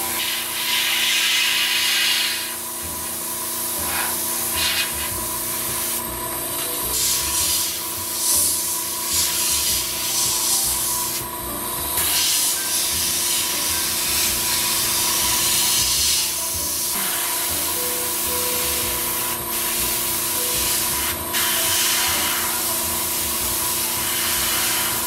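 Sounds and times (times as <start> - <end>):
airbrush spraying hiss: 0.0 - 6.1, 6.8 - 11.3, 12.0 - 25.0
compressor humming: 0.0 - 25.0.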